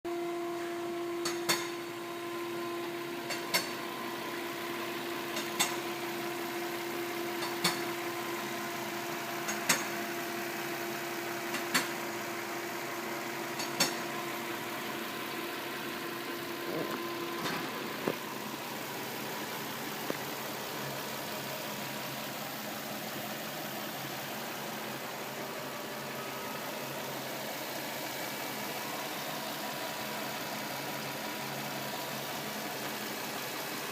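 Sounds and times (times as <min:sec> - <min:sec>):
steady whine: 0:00.1 - 0:33.6
car engine idling: 0:00.1 - 0:33.9.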